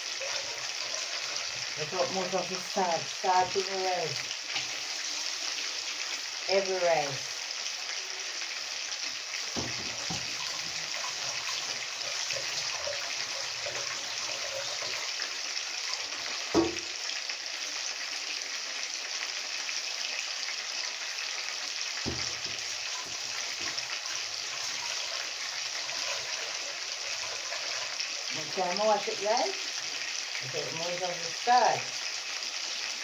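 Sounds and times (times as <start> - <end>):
tap water running: 0.0 - 18.3, 20.8 - 33.0
rice being washed in a pot: 0.0 - 18.8, 20.6 - 33.0.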